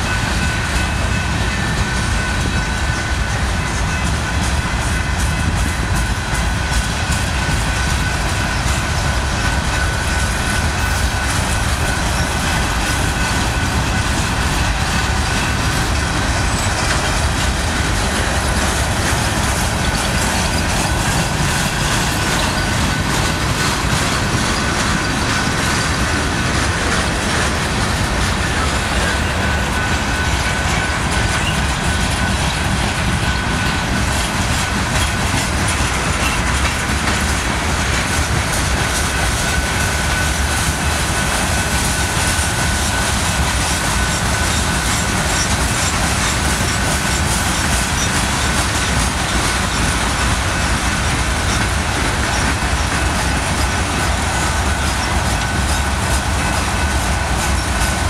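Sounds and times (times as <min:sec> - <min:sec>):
train wheels rumbling on rail: 0:00.0 - 0:58.0
wheels clacking over rail joints: 0:00.0 - 0:58.0.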